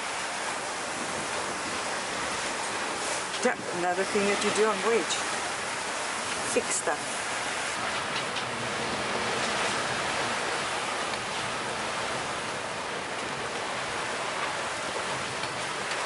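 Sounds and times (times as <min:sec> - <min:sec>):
sea and wind rushing: 0:00.0 - 0:16.0.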